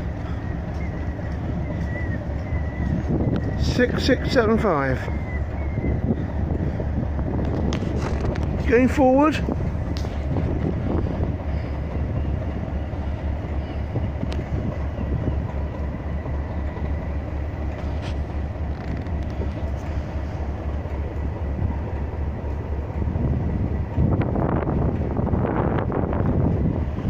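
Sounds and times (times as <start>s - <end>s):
diesel locomotive idling: 0.0s - 27.0s.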